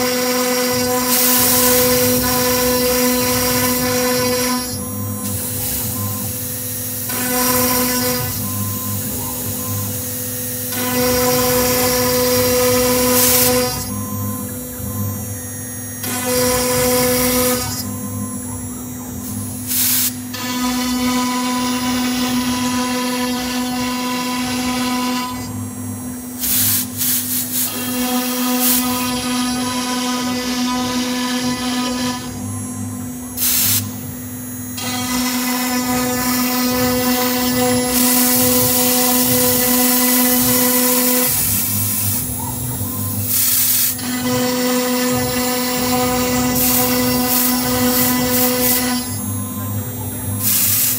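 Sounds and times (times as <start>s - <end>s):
router spindle whine: 0.0s - 50.9s.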